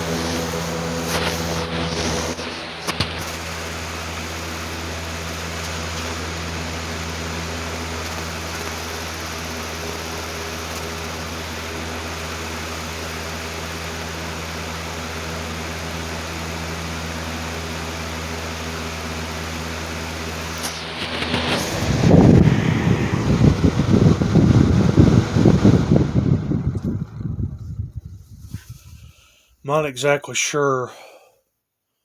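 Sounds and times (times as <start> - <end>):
box fan humming: 0.0 - 29.4
fan air rushing: 0.0 - 29.6.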